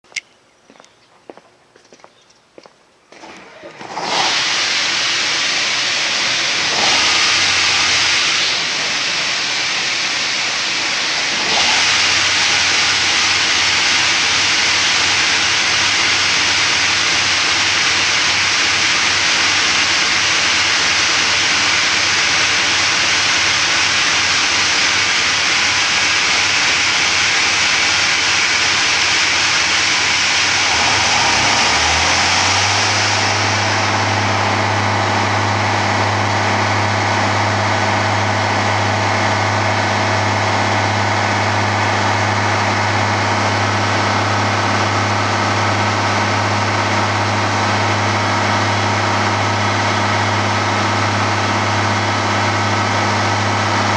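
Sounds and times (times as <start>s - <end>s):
diesel engine humming: 0.0s - 53.9s
loud steady hiss: 3.8s - 53.9s.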